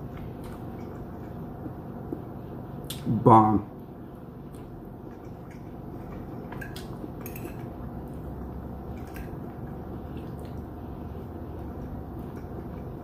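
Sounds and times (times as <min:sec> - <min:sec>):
person chewing food: 0:00.0 - 0:03.1, 0:03.8 - 0:13.0.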